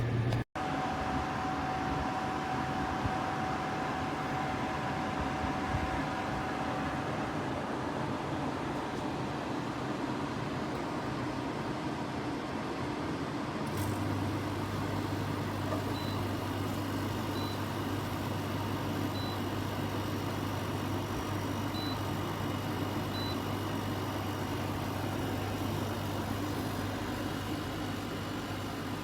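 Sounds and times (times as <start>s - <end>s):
air conditioner fan running: 0.0s - 29.0s.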